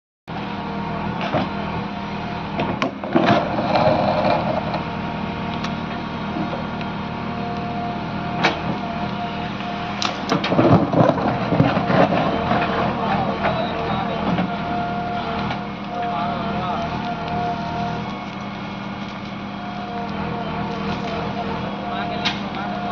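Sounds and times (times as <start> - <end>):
diesel engine running: 0.3 - 22.9
digger moving soil: 2.4 - 5.0, 5.6 - 22.9.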